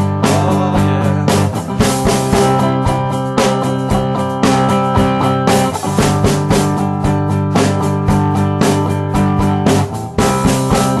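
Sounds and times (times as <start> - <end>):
drum kit: 0.0 - 11.0
strummed guitar: 0.0 - 11.0.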